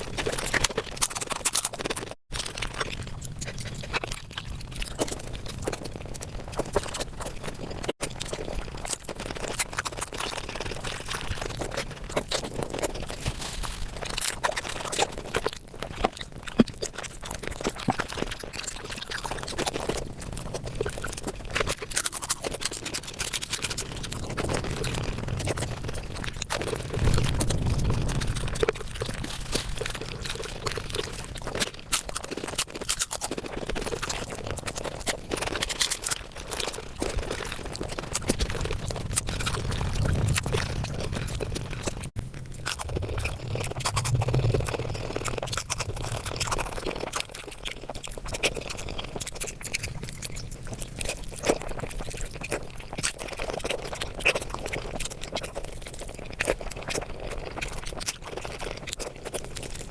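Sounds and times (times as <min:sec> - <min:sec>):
sped-up chewing and smacking: 0:00.0 - 0:59.9.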